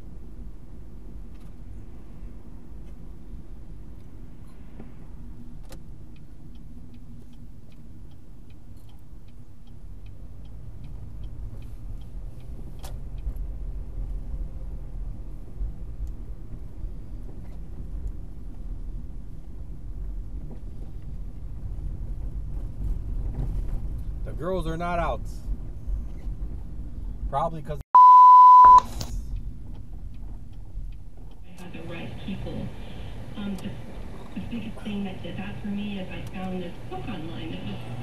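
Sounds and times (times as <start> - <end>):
car engine and tyres rumbling: 0.0 - 27.8, 28.7 - 38.0
turn signal ticking: 2.6 - 23.1, 28.0 - 38.0.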